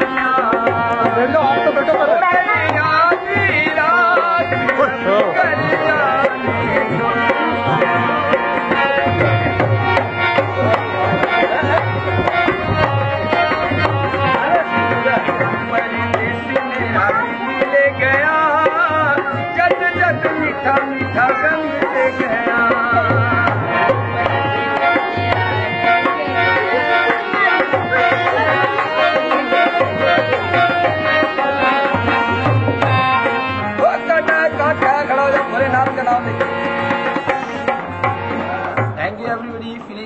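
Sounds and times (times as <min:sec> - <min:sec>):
hand drum rhythm: 0:00.0 - 0:40.0.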